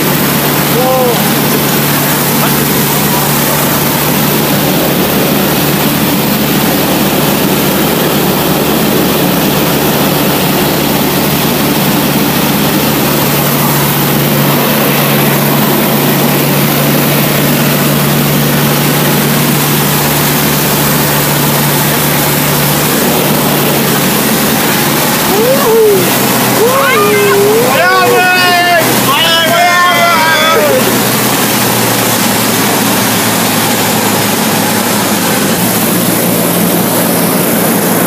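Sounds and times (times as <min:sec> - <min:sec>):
light aircraft engine and propeller: 0:00.0 - 0:38.0.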